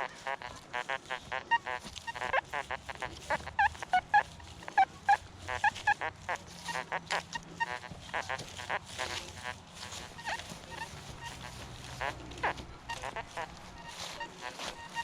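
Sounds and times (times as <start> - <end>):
waterfowl honking: 0.0 - 15.0.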